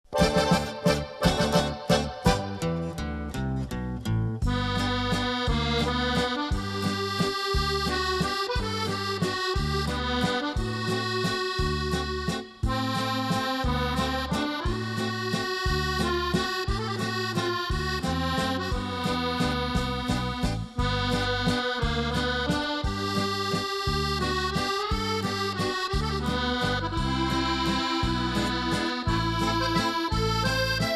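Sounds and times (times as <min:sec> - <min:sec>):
accordion music: 0:00.0 - 0:30.9.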